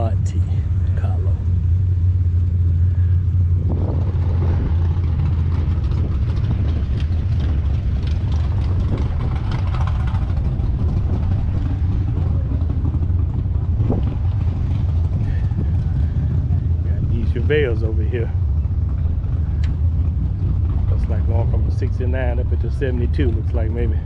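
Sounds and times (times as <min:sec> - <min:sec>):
car engines rumbling: 0:00.0 - 0:24.0.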